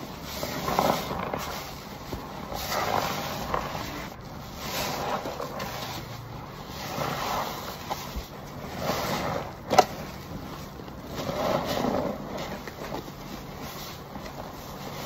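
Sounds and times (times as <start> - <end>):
wet sponge squishing foam: 0.0 - 15.0.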